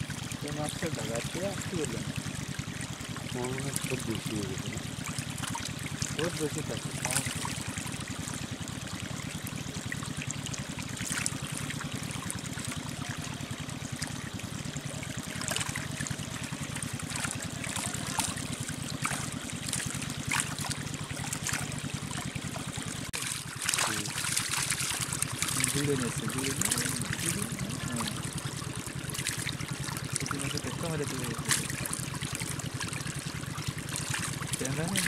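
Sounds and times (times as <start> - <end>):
shallow water trickling: 0.0 - 35.0.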